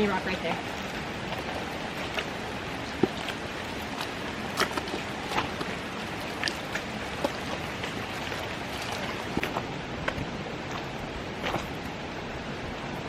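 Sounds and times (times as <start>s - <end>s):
steady rushing water or wind: 0.0s - 13.0s.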